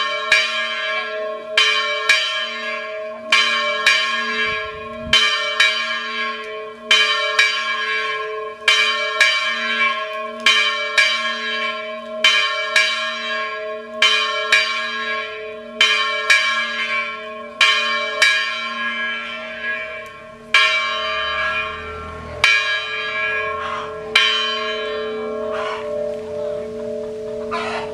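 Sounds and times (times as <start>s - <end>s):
church bell tolling: 0.0s - 27.9s.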